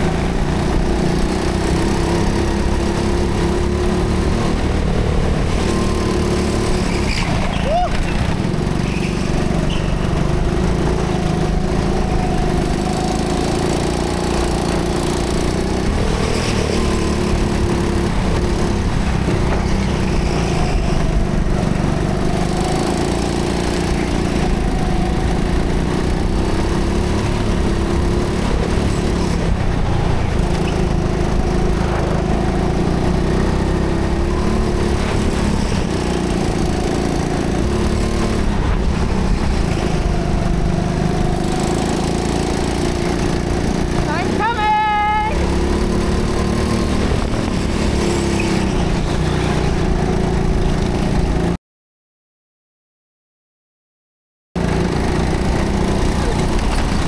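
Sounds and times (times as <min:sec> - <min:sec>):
go-kart engine running under load: 0:00.0 - 0:51.6, 0:54.6 - 0:57.0.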